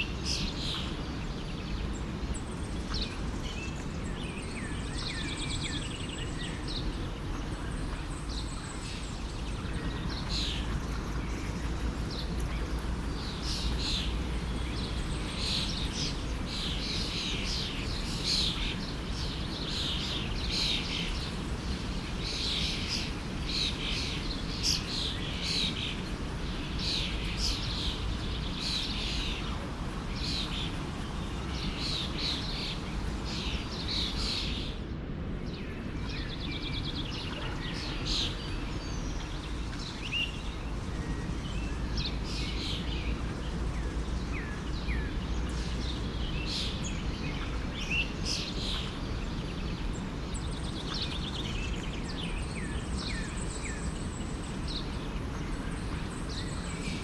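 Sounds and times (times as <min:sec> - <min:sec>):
songbirds chirping: 0:00.0 - 0:57.0
forest stream rushing: 0:04.2 - 0:57.0.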